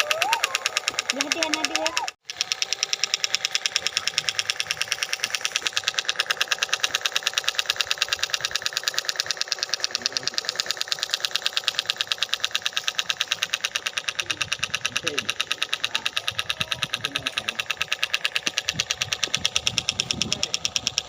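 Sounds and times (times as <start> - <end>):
miniature diesel engine clattering: 0.0 - 21.0.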